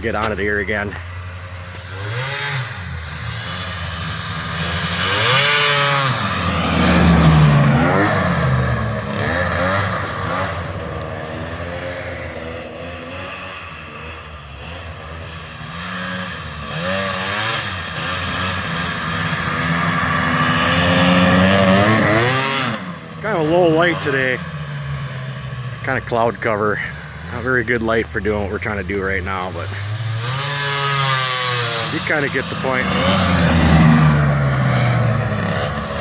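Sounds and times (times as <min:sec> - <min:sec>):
snowmobile engine revving: 0:00.0 - 0:36.0.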